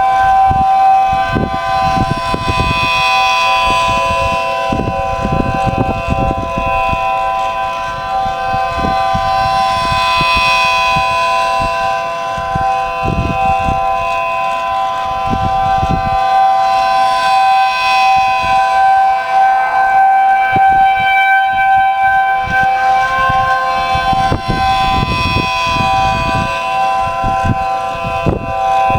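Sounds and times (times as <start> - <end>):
rotating siren chord: 0.0 - 28.9
wind buffeting microphone: 0.0 - 28.9.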